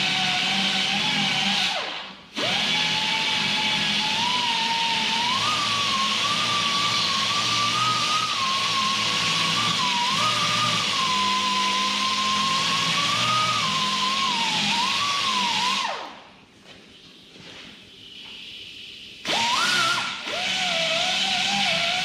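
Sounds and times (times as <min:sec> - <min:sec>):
air die grinder whining: 0:00.0 - 0:16.2, 0:19.3 - 0:22.0.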